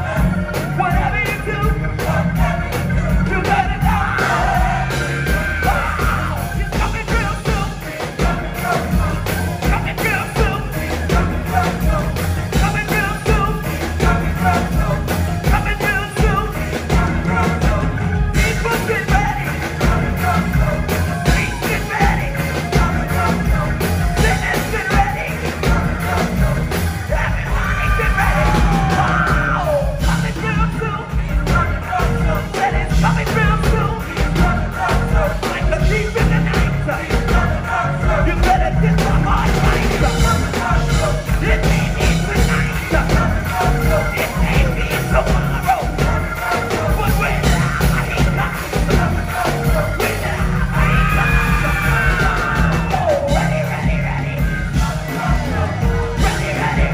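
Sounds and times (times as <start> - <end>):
choir singing: 0.0 - 56.9
drum and bass groove: 0.0 - 56.9.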